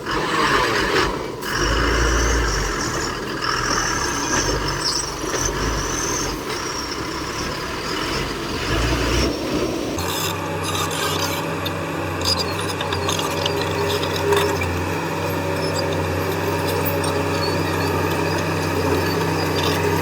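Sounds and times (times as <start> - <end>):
heavy diesel machinery running: 0.0 - 20.0.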